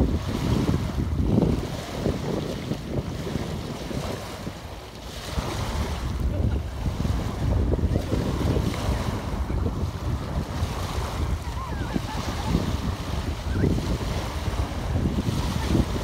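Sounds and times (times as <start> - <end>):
waves lapping on pebble beach: 0.0 - 16.0
wind buffeting microphone: 0.0 - 16.0.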